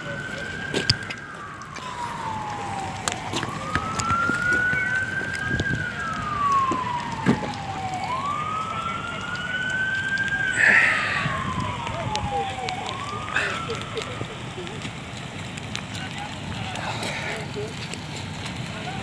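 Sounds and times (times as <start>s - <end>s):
emergency siren wailing: 0.0s - 19.0s.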